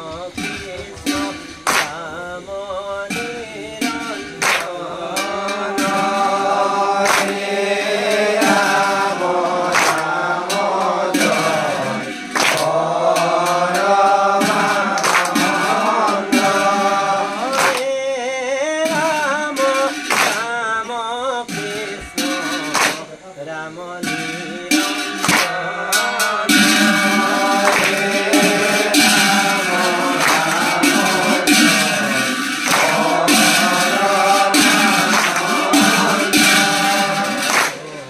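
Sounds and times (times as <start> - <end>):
sharp rhythmic strikes: 0.0 - 38.0
voices chanting a hymn: 0.0 - 38.0.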